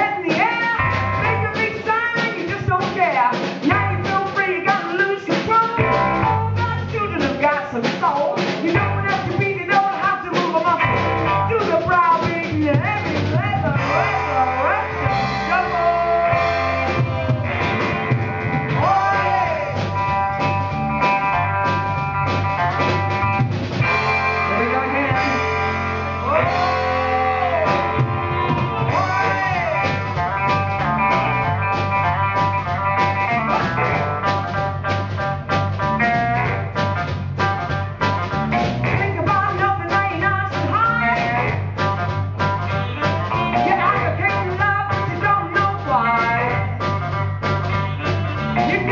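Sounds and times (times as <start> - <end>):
electric bass: 0.0 - 2.9, 3.6 - 7.5, 8.7 - 48.9
drum kit steady beat: 0.0 - 48.9.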